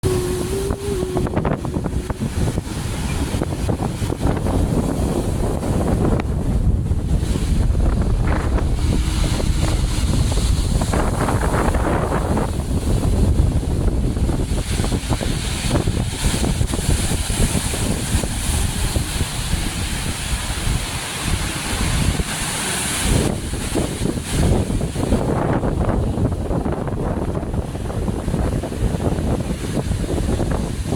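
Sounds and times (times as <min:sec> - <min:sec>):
surf hissing: 0:00.0 - 0:30.9
wind buffeting microphone: 0:00.0 - 0:30.9.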